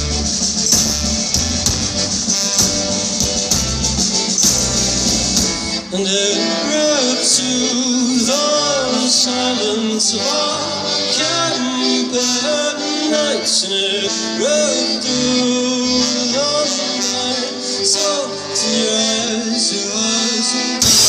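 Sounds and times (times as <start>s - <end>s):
live band music: 0.0s - 21.0s.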